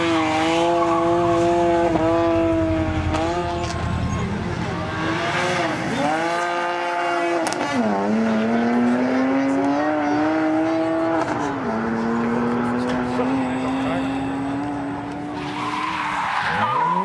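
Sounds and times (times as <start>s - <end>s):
car engine revving high: 0.0s - 17.0s.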